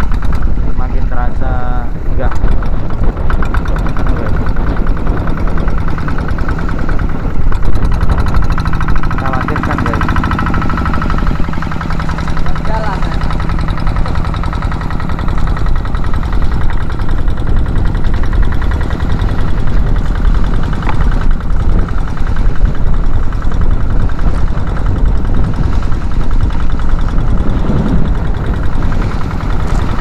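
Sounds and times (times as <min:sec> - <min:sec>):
boat diesel engine chugging: 0:00.0 - 0:30.0.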